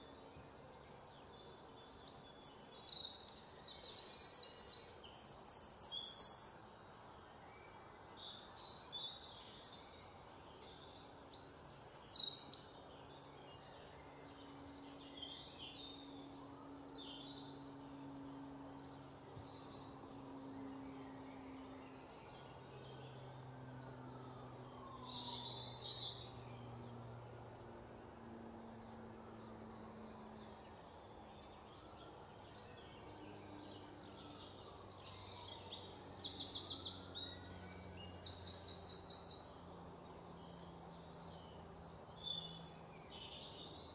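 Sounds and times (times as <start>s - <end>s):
faint low drone: 0.0s - 43.9s
small birds chirping: 0.0s - 43.9s.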